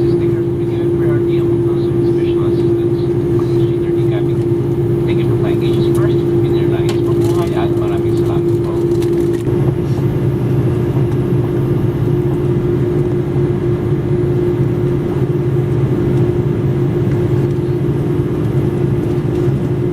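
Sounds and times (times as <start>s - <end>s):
airliner cabin drone: 0.0s - 19.9s.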